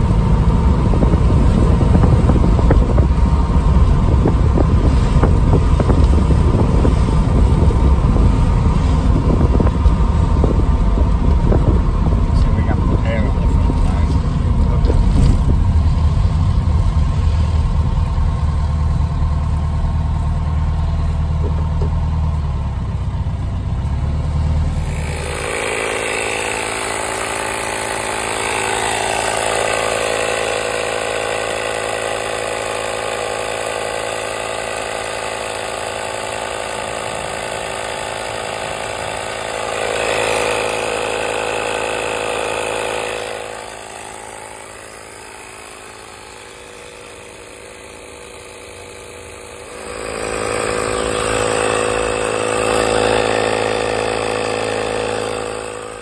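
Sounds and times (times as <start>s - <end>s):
car engine and road noise: 0.0s - 56.0s
electric air compressor running: 0.0s - 56.0s.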